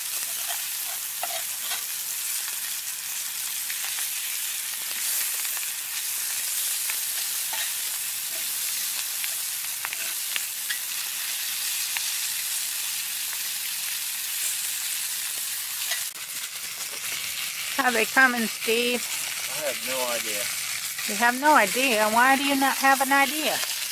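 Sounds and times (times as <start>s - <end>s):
food sizzling in oil: 0.0s - 23.9s.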